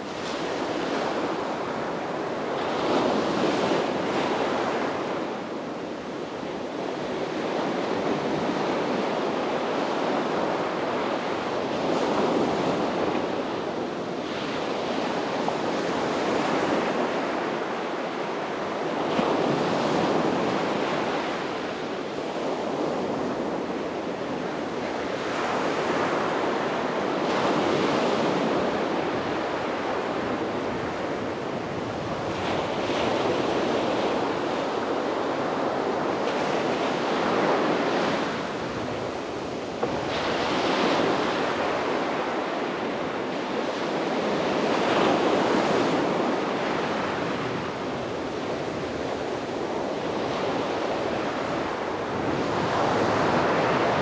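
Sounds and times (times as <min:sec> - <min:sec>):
sea waves breaking on beach: 0:00.0 - 0:54.0
wind on microphone: 0:00.0 - 0:54.0.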